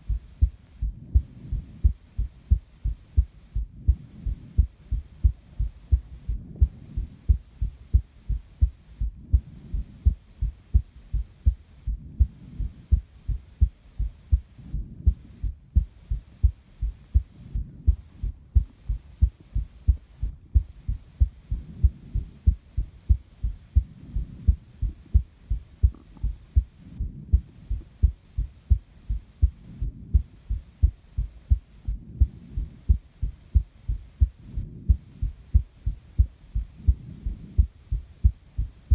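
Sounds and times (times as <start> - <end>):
heartbeat thuds: 0.0 - 38.9
soft breathing: 0.0 - 38.9.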